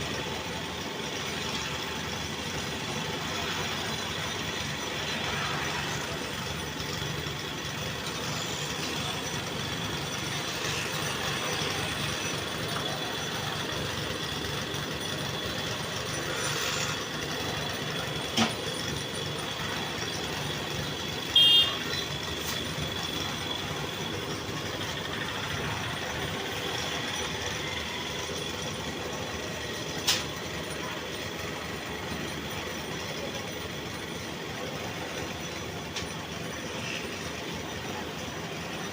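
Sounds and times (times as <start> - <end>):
construction machinery engine running: 0.0 - 38.9.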